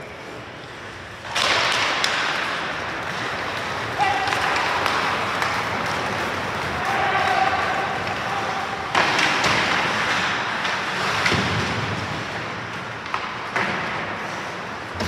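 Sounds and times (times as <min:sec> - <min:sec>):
ice rink crowd noise: 0:00.0 - 0:15.0.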